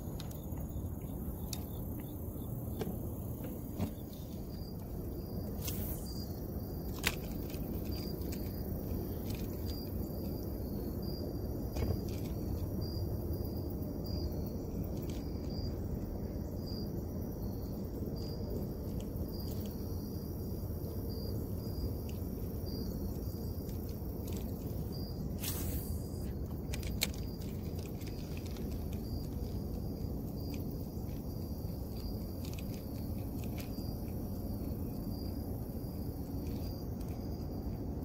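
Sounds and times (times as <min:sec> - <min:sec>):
insects chirping: 0:00.0 - 0:38.0
low outdoor rumble: 0:00.0 - 0:38.0.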